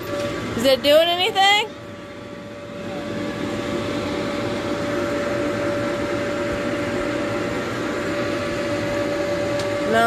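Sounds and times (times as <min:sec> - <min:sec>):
electric motor humming: 0:00.0 - 0:10.0.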